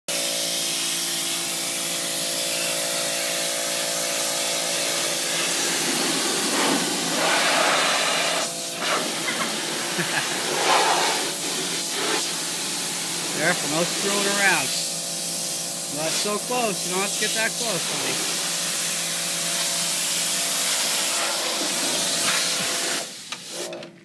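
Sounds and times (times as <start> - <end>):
pressure washer water jet hissing: 0.1 - 23.8
pressure washer hum: 0.1 - 23.9.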